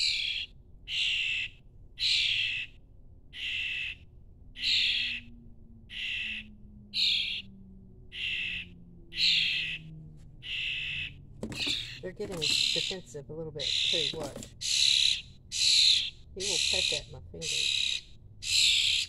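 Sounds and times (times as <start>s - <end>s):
fledgling birds begging calls: 0.0s - 4.0s, 4.6s - 5.3s, 5.9s - 7.5s, 8.1s - 19.0s.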